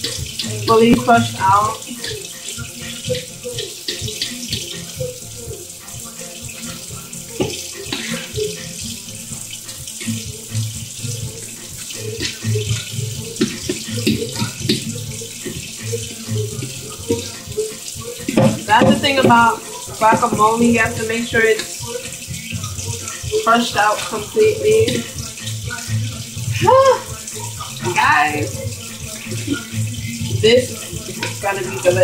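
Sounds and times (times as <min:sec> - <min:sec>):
wet squelches of mashing: 0:00.0 - 0:32.0.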